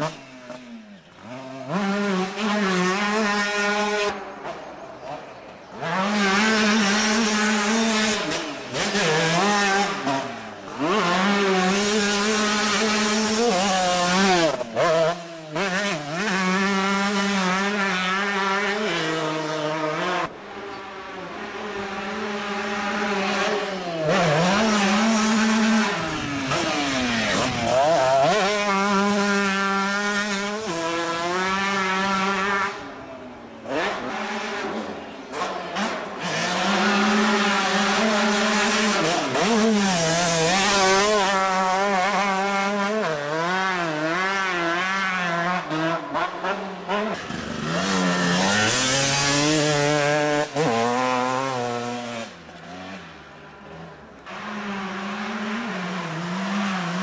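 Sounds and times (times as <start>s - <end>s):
motocross bike revving: 0.0s - 57.0s.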